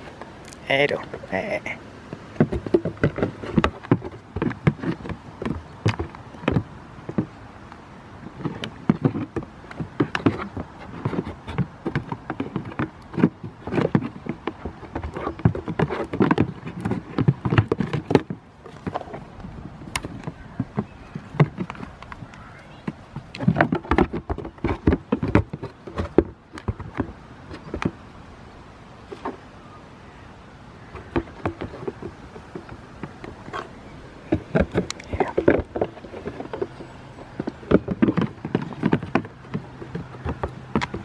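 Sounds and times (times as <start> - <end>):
goat hooves knocking on plastic tubs: 0.0 - 28.1, 30.8 - 41.0.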